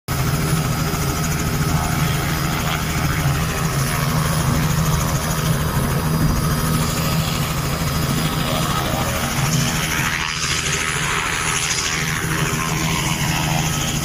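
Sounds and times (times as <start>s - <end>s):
helicopter engine idling: 0.1s - 14.0s.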